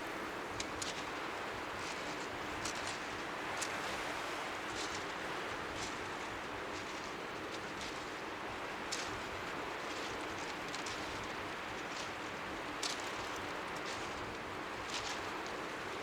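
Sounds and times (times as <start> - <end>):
waves lapping on shore: 0.0 - 16.0.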